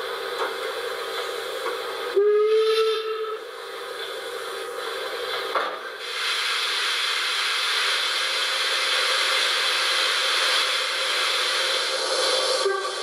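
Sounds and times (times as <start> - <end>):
recorded steam hiss from speaker: 0.0 - 13.0.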